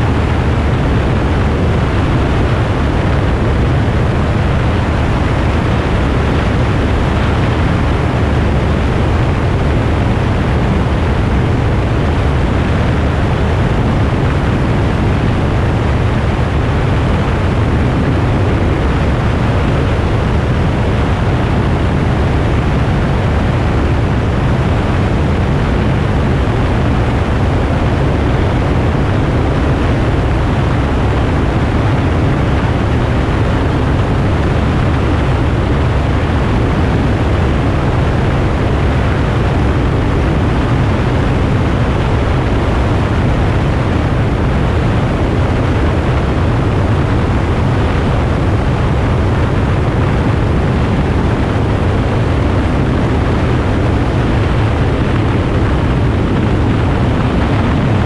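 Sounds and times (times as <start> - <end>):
light aircraft engine drone: 0.0 - 58.0
wind noise on microphone: 0.0 - 58.0.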